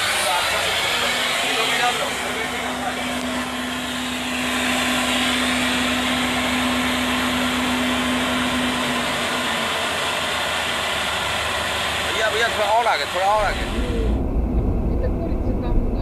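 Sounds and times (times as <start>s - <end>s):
train running: 0.0s - 16.0s
low hum: 0.8s - 12.0s, 13.2s - 16.0s.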